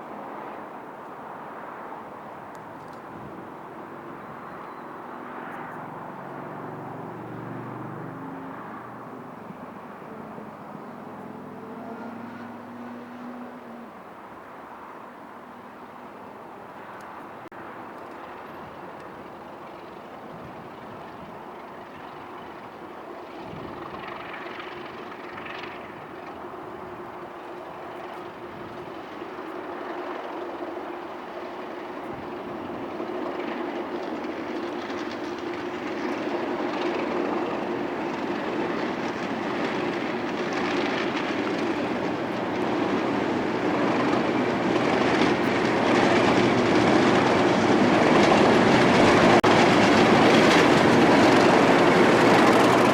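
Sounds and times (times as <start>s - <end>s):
diesel locomotive train approaching: 0.0s - 52.9s.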